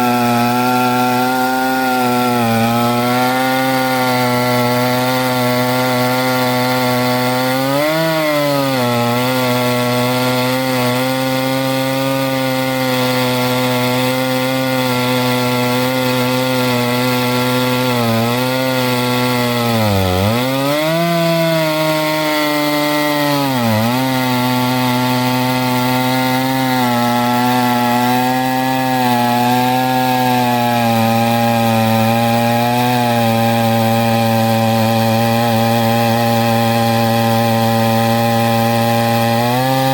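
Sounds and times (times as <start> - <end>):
chainsaw ripping a log: 0.0 - 39.9.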